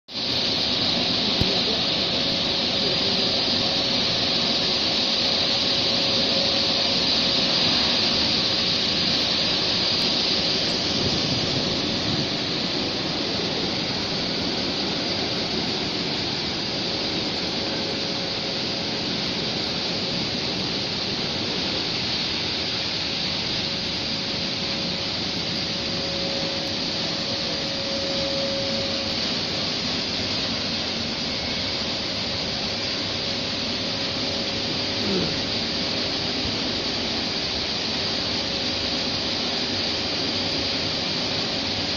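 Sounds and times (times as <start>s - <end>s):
faint machine whine: 0.1s - 41.9s
water spraying from nozzles: 0.1s - 41.9s.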